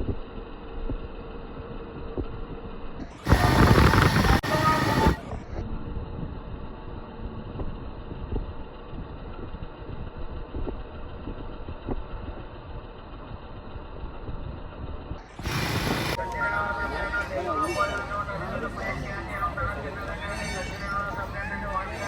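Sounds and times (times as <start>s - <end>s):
engine idling: 0.1s - 21.9s.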